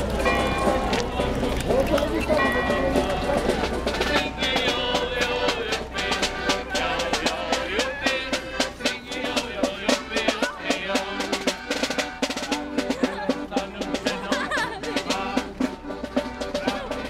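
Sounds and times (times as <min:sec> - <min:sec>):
accordion melody: 0:00.0 - 0:17.0
drums beating: 0:00.0 - 0:17.0
street band playing: 0:00.0 - 0:17.0.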